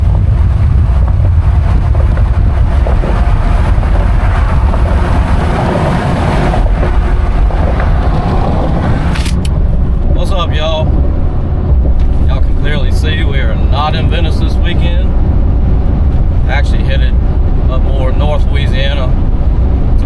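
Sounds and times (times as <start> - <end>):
moving vehicle rumble: 0.0 - 20.0
wind buffeting microphone: 0.0 - 20.0.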